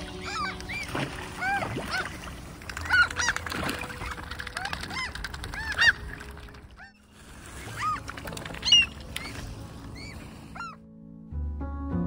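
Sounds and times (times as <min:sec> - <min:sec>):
gulls squawking: 0:00.0 - 0:10.8.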